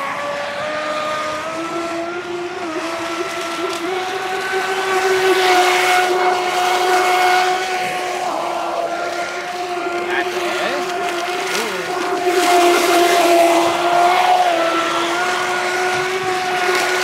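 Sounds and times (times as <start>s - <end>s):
electric motor whining: 0.0s - 17.0s
water spray and wind hiss: 0.0s - 17.0s.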